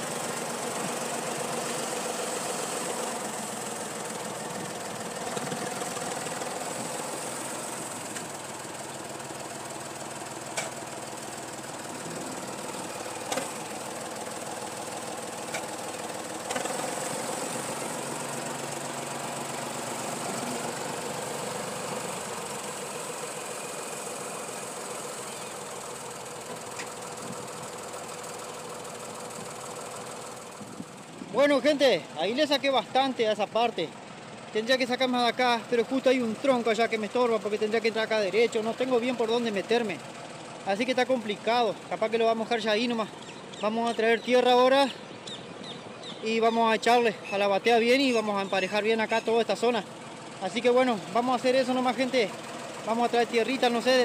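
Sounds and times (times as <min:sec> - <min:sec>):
tractor diesel engine clattering: 0:00.0 - 0:54.0.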